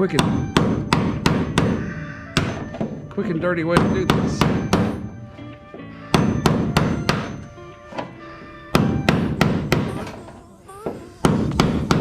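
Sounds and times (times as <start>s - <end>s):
hammer striking chisel on metal: 0.0s - 5.3s, 6.1s - 8.1s, 8.7s - 12.0s.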